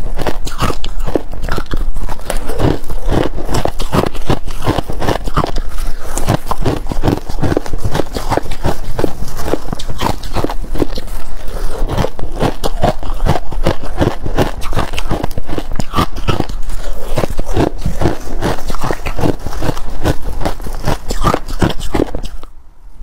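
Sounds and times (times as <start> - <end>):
ice crunching: 0.0 - 22.4.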